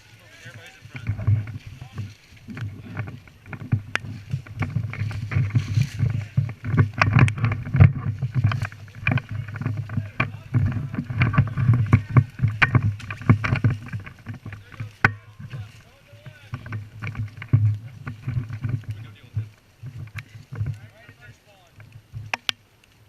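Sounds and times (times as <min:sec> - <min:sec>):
footsteps crunching through brush: 0:00.0 - 0:22.3
wind rumble: 0:00.0 - 0:22.4
microphone handling noise: 0:00.0 - 0:22.6.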